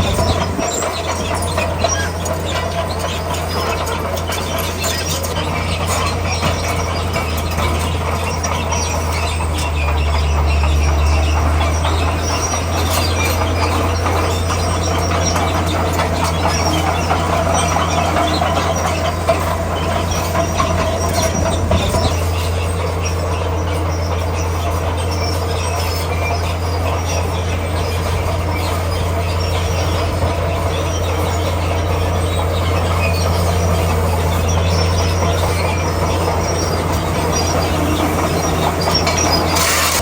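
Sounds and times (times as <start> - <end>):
bulldozer diesel engine droning: 0.0 - 40.0
steel tracks squealing and clanking: 0.0 - 40.0.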